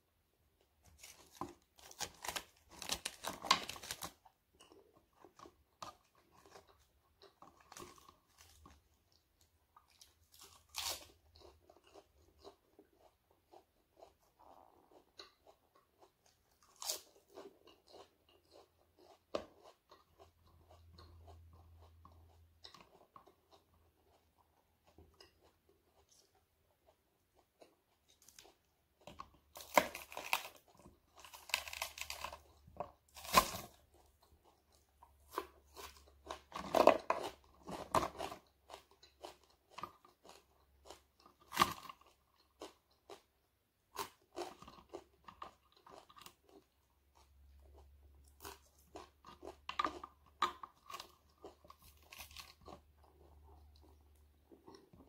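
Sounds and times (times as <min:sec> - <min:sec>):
chewing crispy food: 0:00.5 - 0:55.0.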